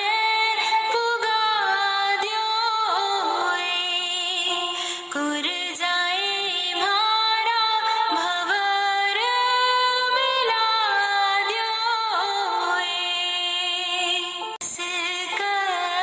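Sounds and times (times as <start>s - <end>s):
woman singing folk song: 0.0s - 16.0s.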